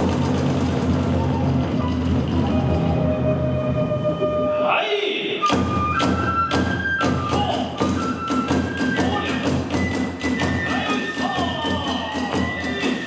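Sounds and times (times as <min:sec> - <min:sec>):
taiko drum strokes: 0:00.0 - 0:04.6, 0:05.4 - 0:13.0
bamboo flute long notes: 0:00.0 - 0:13.0.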